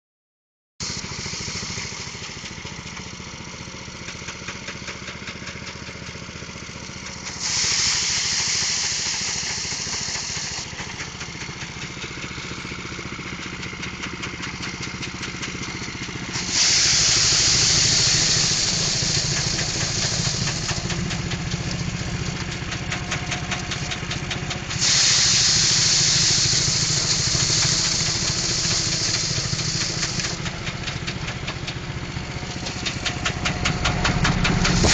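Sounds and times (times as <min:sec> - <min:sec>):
harsh machine hissing: 0:00.8 - 0:04.6, 0:06.6 - 0:34.9
threshing machine engine running: 0:00.8 - 0:34.9.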